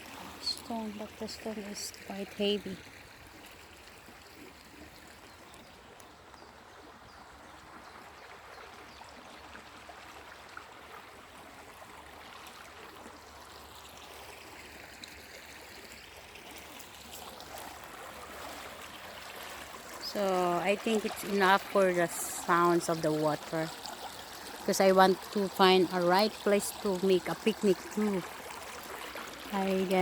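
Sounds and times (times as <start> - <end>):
flowing water: 0.0 - 30.0.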